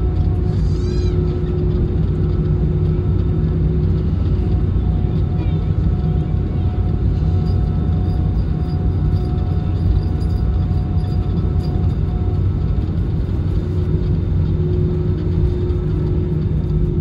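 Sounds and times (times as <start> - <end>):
faint engine tone: 0.0 - 17.0
jet engine cabin rumble: 0.0 - 17.0.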